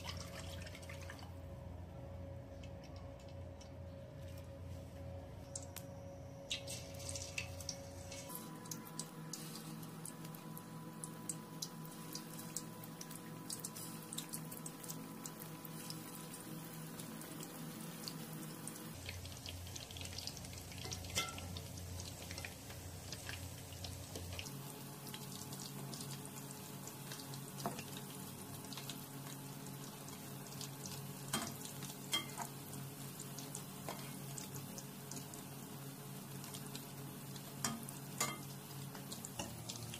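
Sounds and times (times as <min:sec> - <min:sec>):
batter deep-frying in oil: 0:00.0 - 0:04.3, 0:05.2 - 0:39.9
faint steady hum: 0:00.0 - 0:39.9.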